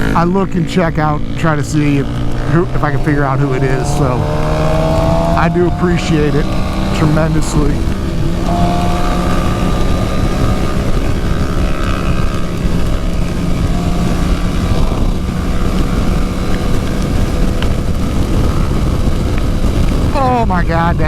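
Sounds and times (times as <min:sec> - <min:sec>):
motorcycle engine cruising: 0:00.0 - 0:21.0
wind rush on microphone: 0:00.0 - 0:21.0.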